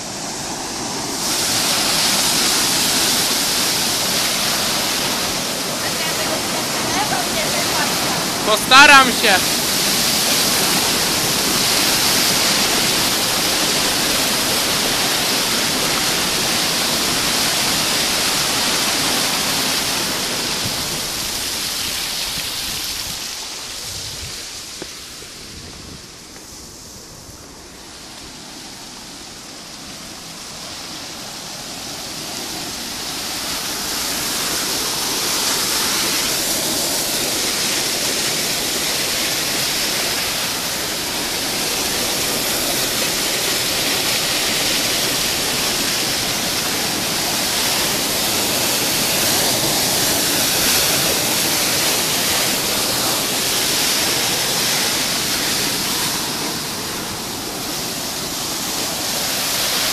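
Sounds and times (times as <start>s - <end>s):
water rushing through weir: 0.0s - 24.8s, 28.2s - 59.9s.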